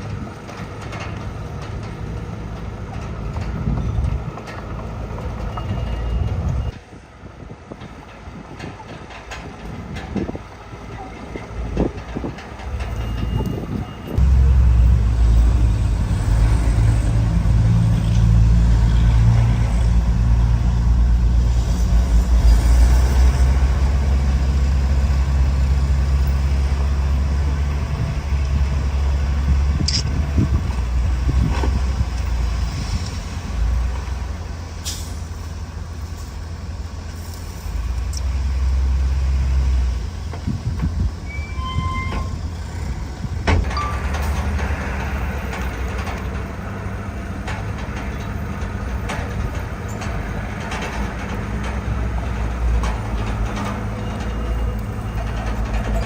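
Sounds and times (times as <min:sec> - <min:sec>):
heavy diesel machinery drone: 0:00.0 - 0:56.0.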